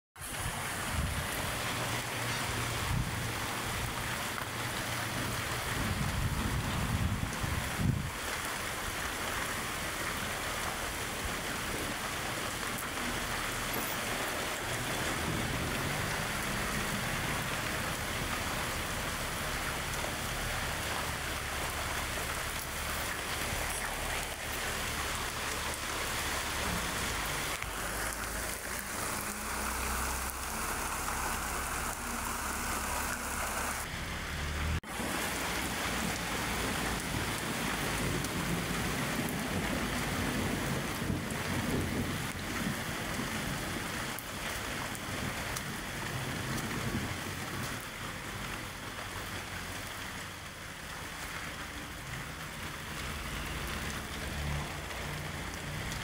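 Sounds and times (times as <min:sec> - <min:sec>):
steady rain: 0:00.2 - 0:56.0.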